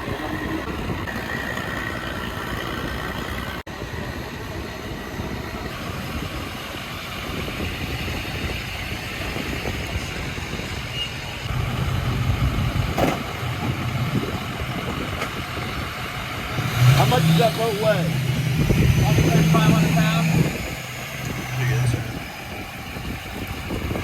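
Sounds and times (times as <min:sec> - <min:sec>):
engine running with rushing noise: 0:00.0 - 0:24.0.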